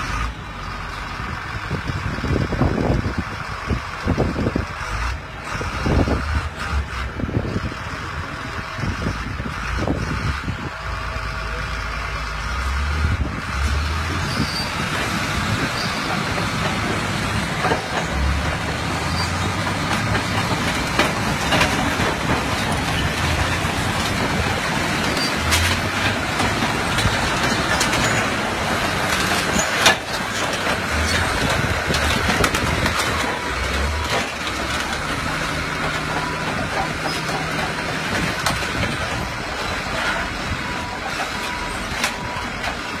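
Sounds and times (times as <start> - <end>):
bulldozer diesel engine under load: 0.0 - 43.0
bulldozer tracks clanking: 0.0 - 43.0.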